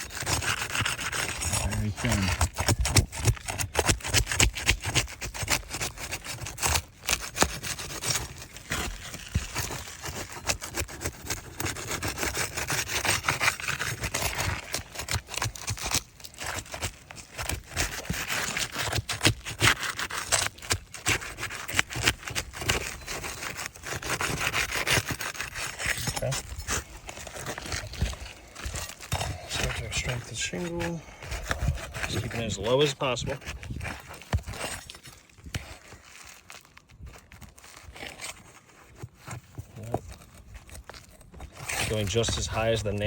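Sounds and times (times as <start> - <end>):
pry bar scraping under shingles: 0.0 - 43.0.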